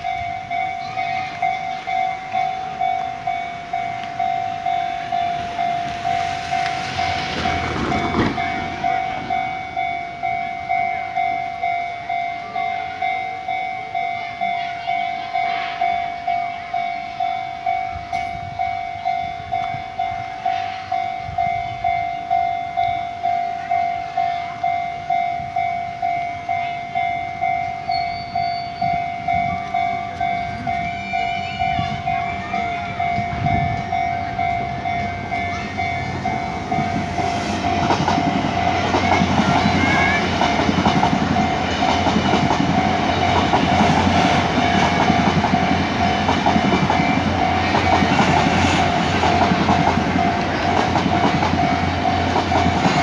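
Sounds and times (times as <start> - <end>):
level-crossing warning bell: 0.0 - 53.0.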